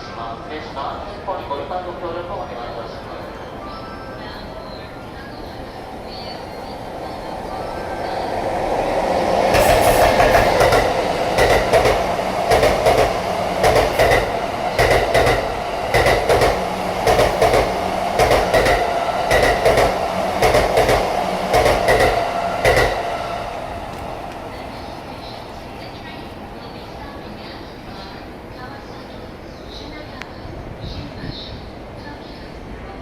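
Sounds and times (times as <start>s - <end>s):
train passing rumble: 0.0s - 33.0s.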